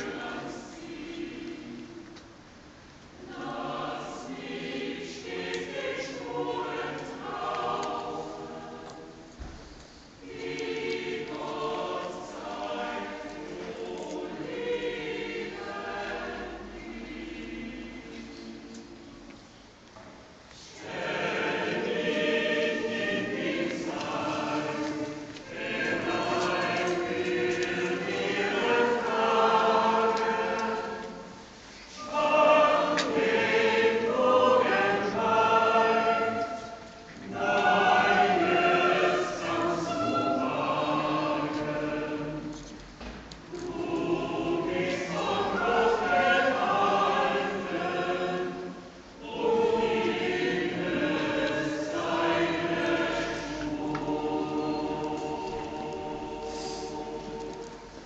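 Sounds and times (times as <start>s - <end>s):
voices singing a hymn: 0.0s - 2.4s, 3.2s - 19.4s, 20.6s - 58.0s.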